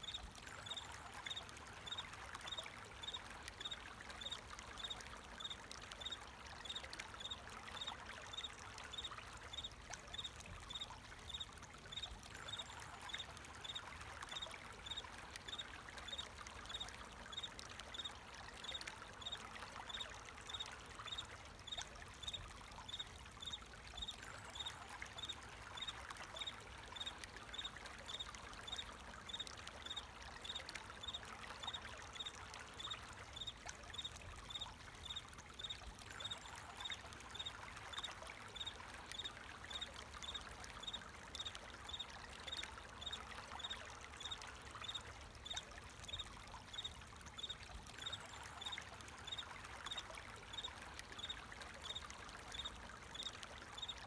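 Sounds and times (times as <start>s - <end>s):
water flowing and trickling: 0.0s - 54.0s.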